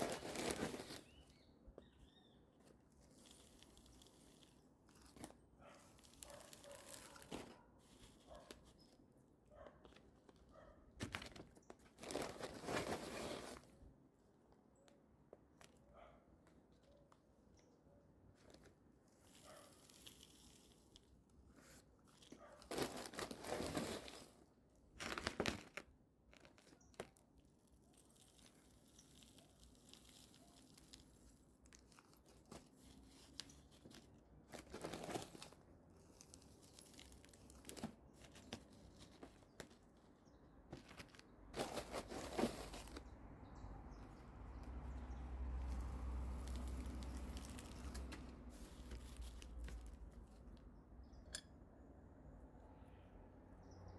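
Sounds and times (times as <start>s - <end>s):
scrapes and crunches: 0.0s - 13.9s, 18.2s - 51.2s
rustling of potting soil: 0.0s - 51.3s.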